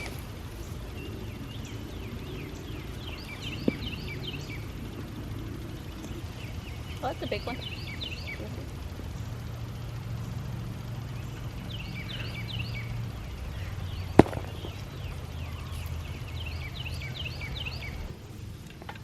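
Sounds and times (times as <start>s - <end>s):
songbird singing: 0.0s - 19.0s
steady low rumble: 0.0s - 19.0s.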